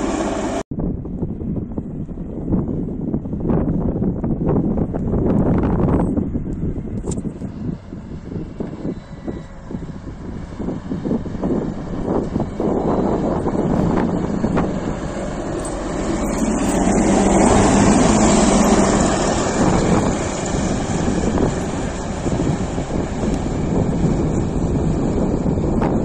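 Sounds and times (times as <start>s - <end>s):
diesel engine running: 0.0s - 0.6s, 1.7s - 26.0s.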